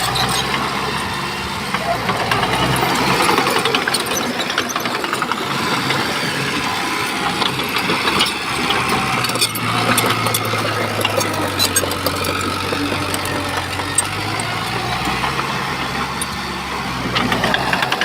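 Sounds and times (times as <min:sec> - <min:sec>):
diesel engine running: 0:00.0 - 0:18.0
sharp clicks and clatter: 0:00.0 - 0:18.0.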